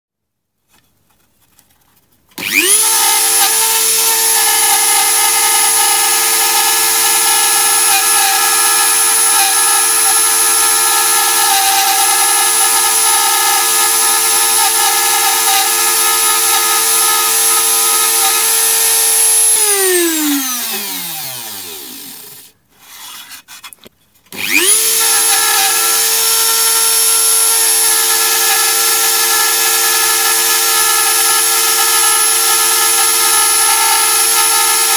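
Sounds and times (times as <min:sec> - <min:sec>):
rotary tool whining: 0:02.3 - 0:23.5, 0:24.3 - 0:34.9.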